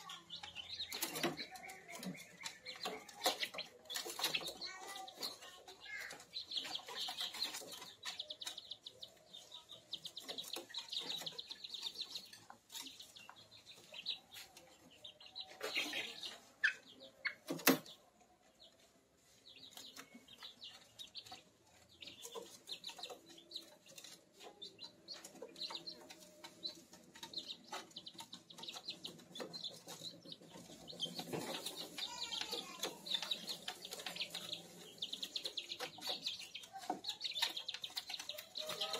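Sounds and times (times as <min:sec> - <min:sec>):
chicks peeping and chirping: 0:00.0 - 0:38.9.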